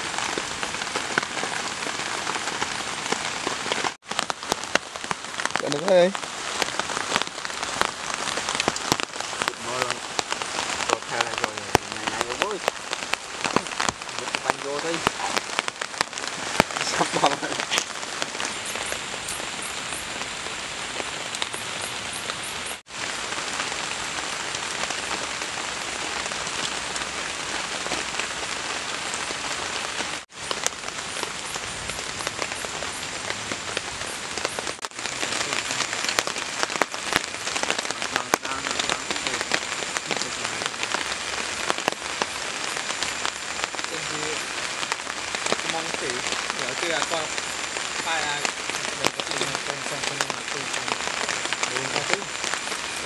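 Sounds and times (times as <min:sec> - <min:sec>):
rain on leaves and tarp: 0:00.0 - 0:53.0.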